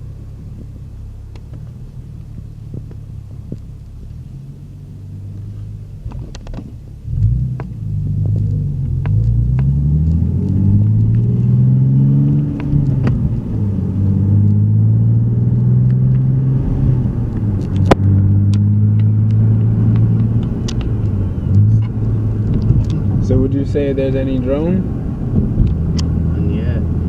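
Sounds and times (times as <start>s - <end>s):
car exhaust note while driving: 0.0s - 27.0s.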